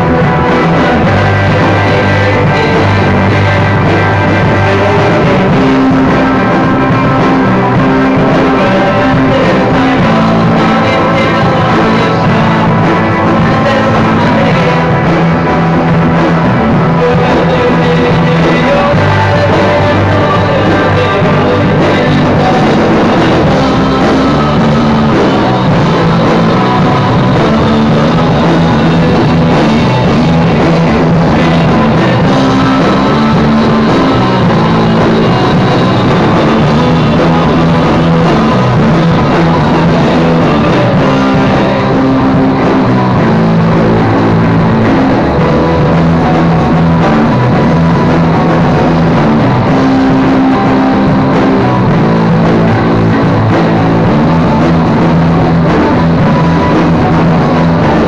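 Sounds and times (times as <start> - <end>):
bass: 0.0 - 58.0
drums: 0.0 - 58.0
electric guitar playing chords: 0.0 - 58.0.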